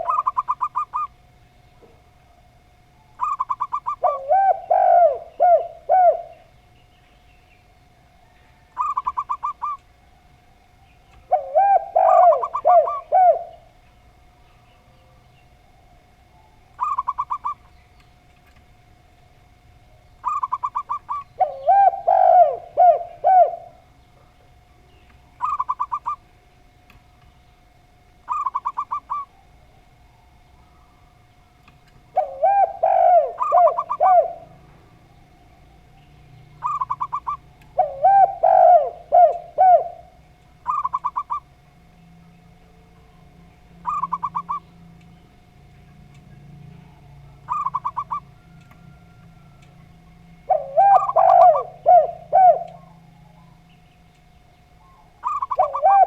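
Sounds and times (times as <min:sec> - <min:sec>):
doves cooing: 0:00.0 - 0:06.8, 0:07.6 - 0:18.8, 0:19.4 - 0:56.0
faint steady whine: 0:00.0 - 0:56.0.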